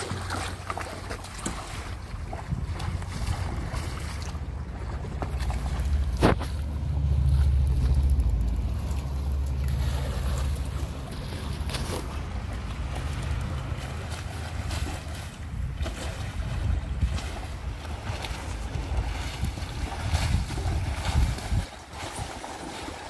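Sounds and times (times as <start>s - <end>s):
water lapping around boat: 0.0s - 23.0s
water splashes: 0.0s - 23.0s
wind buffeting microphone: 1.8s - 22.8s.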